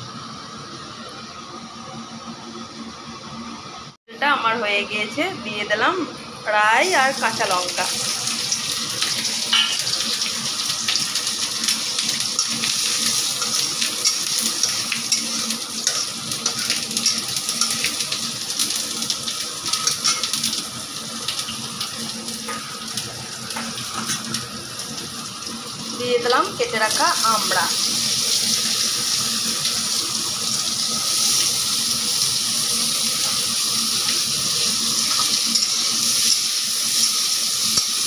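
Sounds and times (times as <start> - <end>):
chillies sizzling in hot oil: 6.6 - 38.0.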